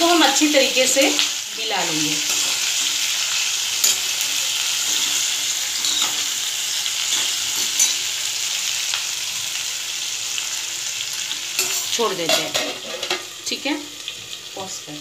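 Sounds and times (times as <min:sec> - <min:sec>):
okra sizzling in oil: 0:00.0 - 0:15.0.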